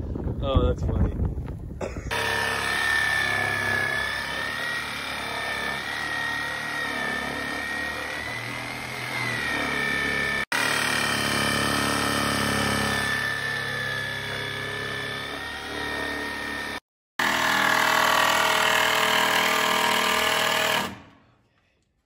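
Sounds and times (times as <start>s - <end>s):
drill driving screws: 2.1s - 21.2s
jigsaw cutting wood: 2.1s - 21.2s.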